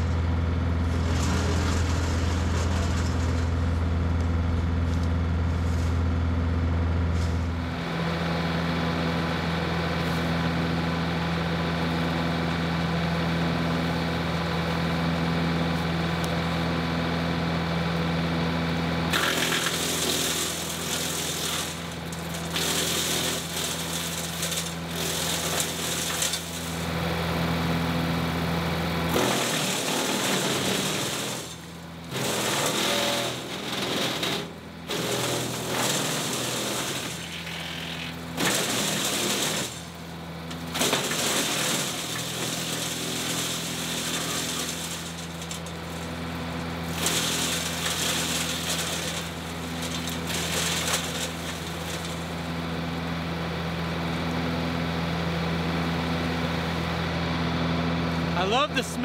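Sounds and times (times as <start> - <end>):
tractor diesel engine running: 0.0 - 29.2, 33.4 - 59.0
wood chipper chewing brush: 0.0 - 59.0.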